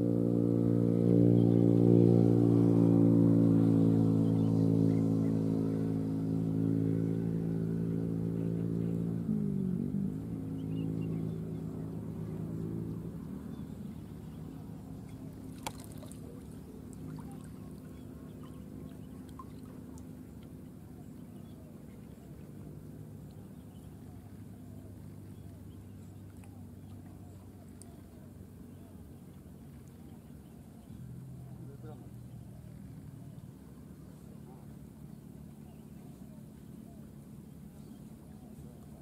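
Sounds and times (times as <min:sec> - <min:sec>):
small engine droning: 0:00.0 - 0:39.0.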